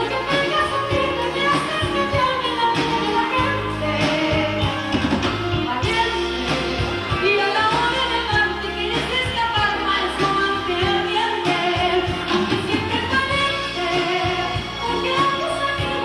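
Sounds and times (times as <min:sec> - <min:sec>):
pop band playing: 0:00.0 - 0:16.0
woman singing into microphone: 0:00.0 - 0:16.0.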